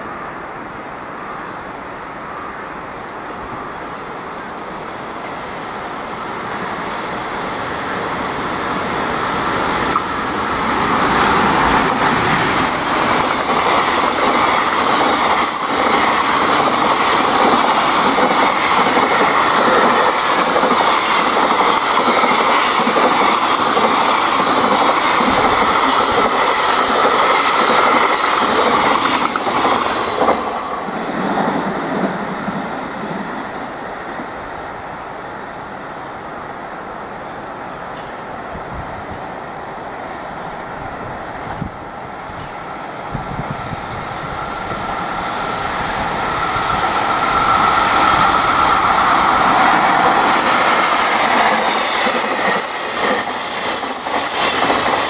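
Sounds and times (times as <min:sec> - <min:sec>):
electric locomotive passing: 0:00.0 - 0:55.0.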